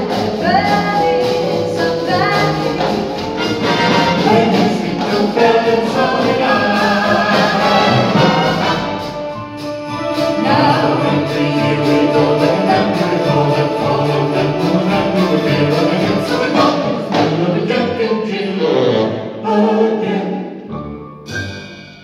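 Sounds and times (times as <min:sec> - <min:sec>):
vocal group singing harmony: 0:00.0 - 0:09.4, 0:10.1 - 0:20.7
swing big band playing: 0:00.0 - 0:19.3.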